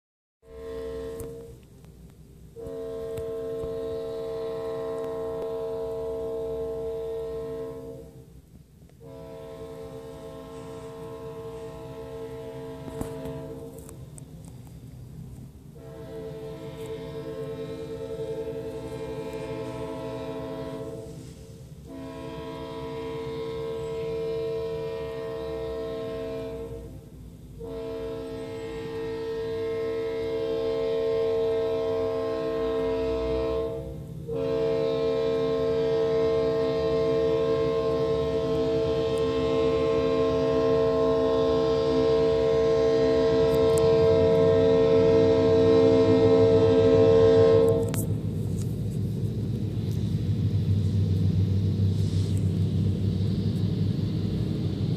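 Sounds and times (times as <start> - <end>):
locomotive air horn blasts: 0.4 - 54.9.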